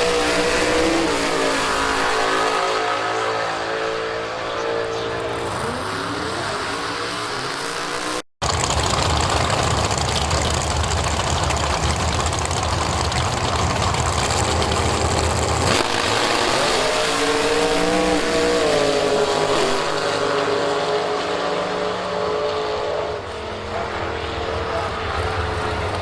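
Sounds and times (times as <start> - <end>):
drag racing engines revving: 0.0 - 26.0.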